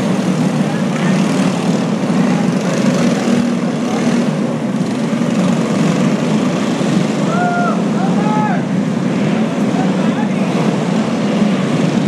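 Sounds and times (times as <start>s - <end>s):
kart engines droning: 0.0s - 12.0s.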